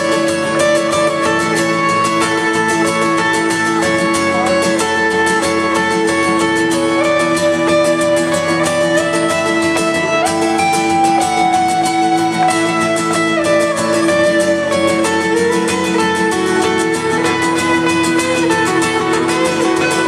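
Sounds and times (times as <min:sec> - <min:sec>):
guitar strummed: 0:00.0 - 0:20.0
sliding melody line: 0:00.0 - 0:20.0.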